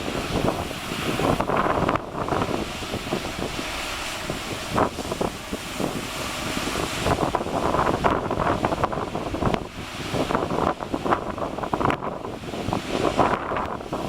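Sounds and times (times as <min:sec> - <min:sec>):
rough surf: 0:00.0 - 0:14.0
wind buffeting microphone: 0:00.0 - 0:14.0.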